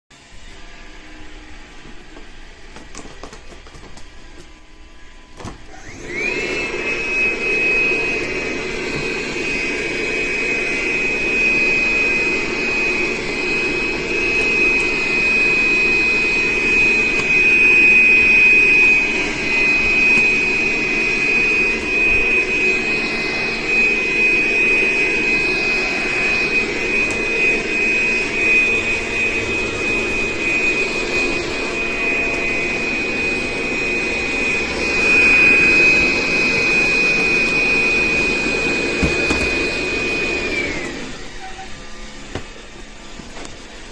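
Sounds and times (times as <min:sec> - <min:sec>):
vacuum cleaner motor whine: 0:00.1 - 0:43.9.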